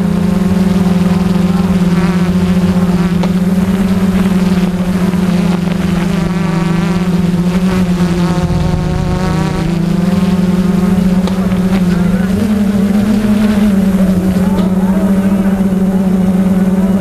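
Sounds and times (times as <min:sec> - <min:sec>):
drone propellers buzzing: 0:00.2 - 0:16.8.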